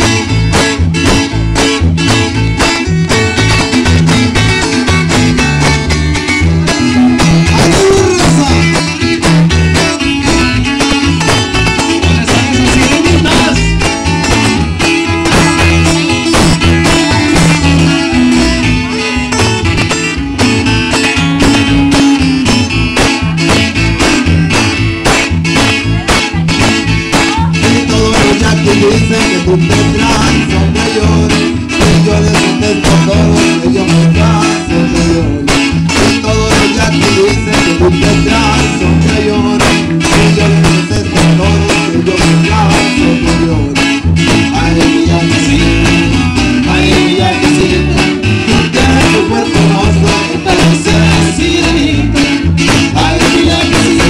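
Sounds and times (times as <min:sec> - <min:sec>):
acoustic guitars strumming: 0:00.0 - 0:54.0
electric bass line: 0:00.0 - 0:54.0.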